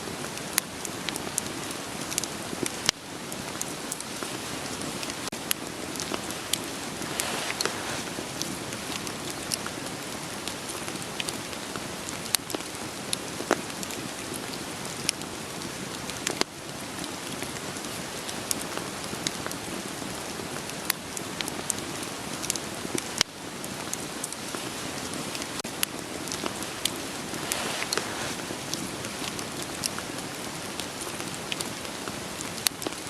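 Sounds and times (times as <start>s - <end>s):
rain hiss: 0.0s - 33.0s
wood fire crackling: 0.0s - 33.0s.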